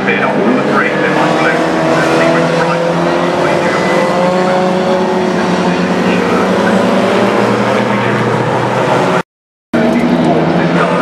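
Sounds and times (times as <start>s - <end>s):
racing car engines: 0.0s - 9.2s, 9.8s - 11.0s.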